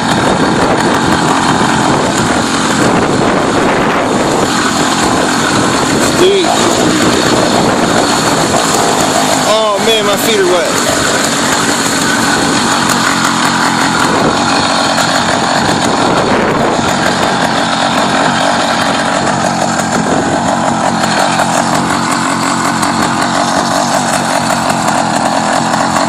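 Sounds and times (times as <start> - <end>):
small buzzy engine running: 0.0 - 26.0.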